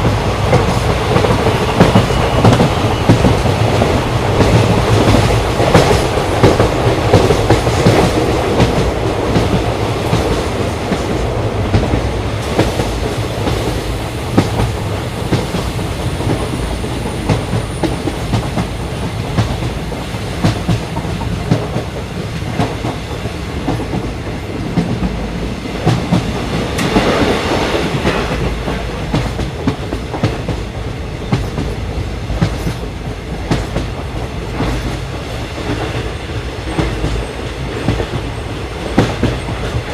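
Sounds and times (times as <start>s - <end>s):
rail joint clicks: 0.0s - 39.9s
train wheels rumbling on rail: 0.0s - 39.9s.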